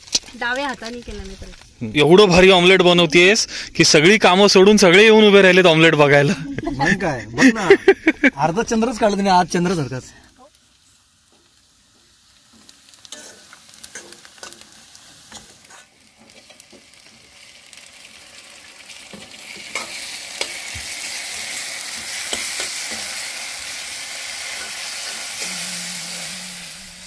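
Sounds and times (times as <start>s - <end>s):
food frying sizzle: 0.0s - 27.0s.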